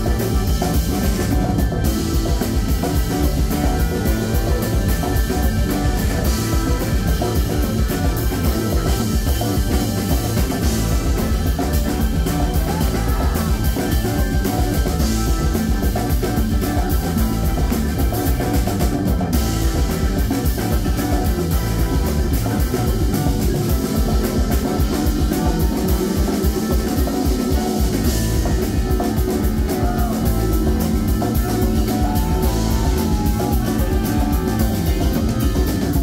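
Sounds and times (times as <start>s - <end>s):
drum kit: 0.0s - 36.0s
electric guitar: 0.0s - 36.0s
keyboards and organ: 0.0s - 36.0s.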